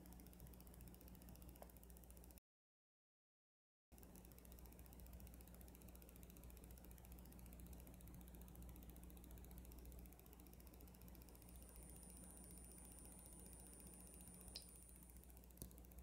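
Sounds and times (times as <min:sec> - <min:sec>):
faint hiss and low hum: 0:00.0 - 0:02.4, 0:04.0 - 0:16.0.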